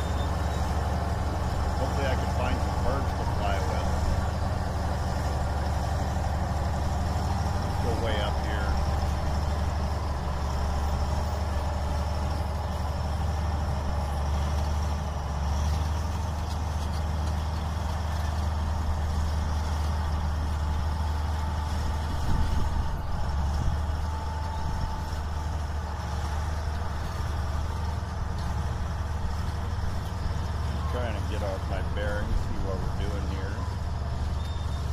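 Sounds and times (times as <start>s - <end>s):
heavy machinery engine rumbling: 0.0s - 34.9s.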